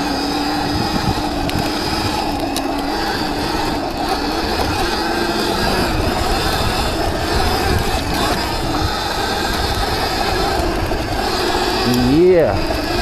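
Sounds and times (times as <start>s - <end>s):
chain and drivetrain clatter: 0.0s - 13.0s
electric motor whining: 0.0s - 13.0s.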